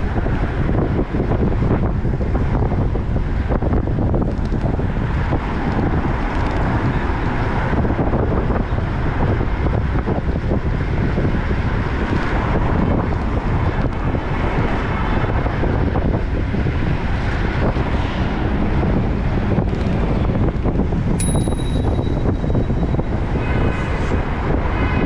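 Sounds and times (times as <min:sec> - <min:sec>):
road traffic: 0:00.0 - 0:25.0
wind rushing over microphone: 0:00.0 - 0:25.0.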